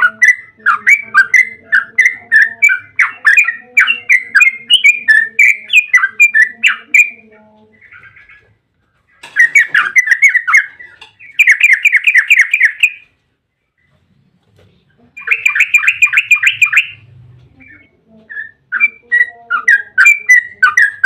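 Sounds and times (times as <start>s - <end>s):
bulbul chirping song: 0.0s - 8.5s, 9.1s - 13.2s, 15.2s - 21.0s.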